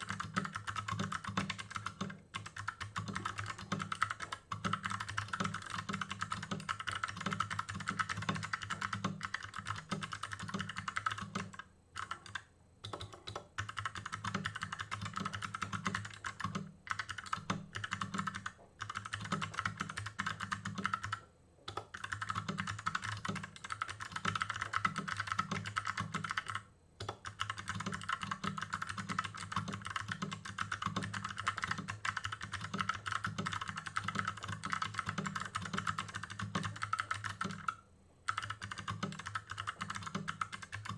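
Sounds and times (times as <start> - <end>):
clicky mechanical keyboard typing: 0.0 - 40.9.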